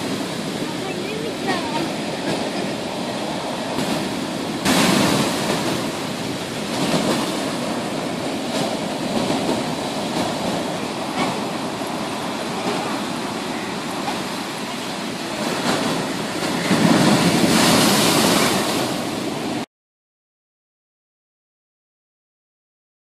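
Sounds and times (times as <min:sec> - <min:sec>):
surf breaking on rocky beach: 0:00.0 - 0:19.7.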